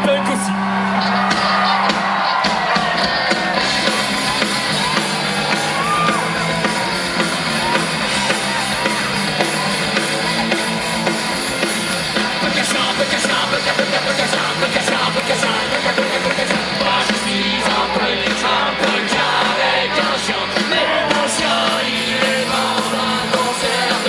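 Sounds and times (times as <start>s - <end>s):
live rock band playing: 0.0s - 24.0s
voices yelling and whooping: 0.0s - 24.0s.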